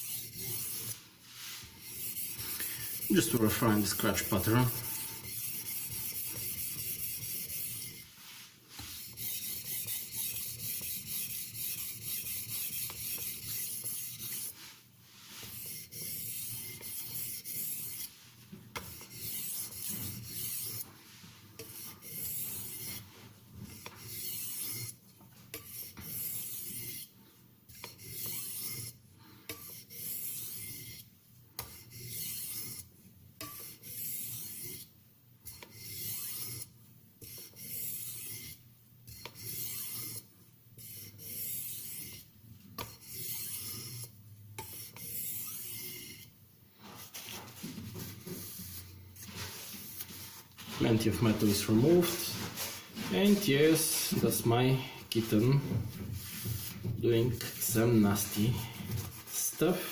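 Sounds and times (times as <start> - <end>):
knife scraping on oilstone: 0.0 - 18.2, 18.8 - 23.1, 23.7 - 27.1, 27.7 - 59.9.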